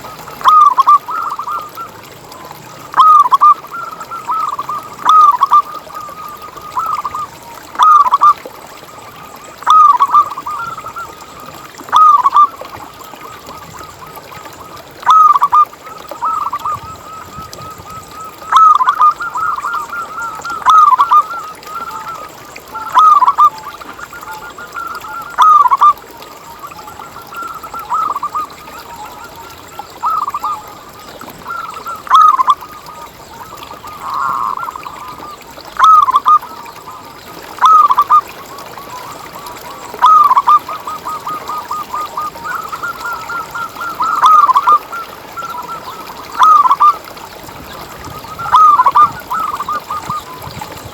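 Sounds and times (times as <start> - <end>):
doves cooing: 0.0 - 8.4, 9.4 - 50.9.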